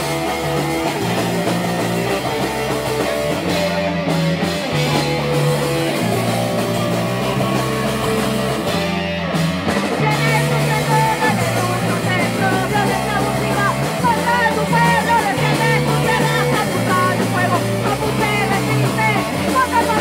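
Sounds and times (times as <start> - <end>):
distorted electric guitar: 0.0 - 20.0
low bass notes: 0.0 - 20.0.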